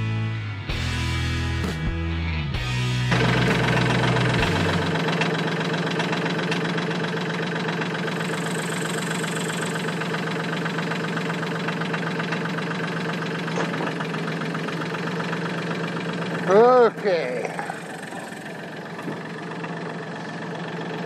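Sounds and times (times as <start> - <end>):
diesel tractor engine idling: 2.8 - 21.0.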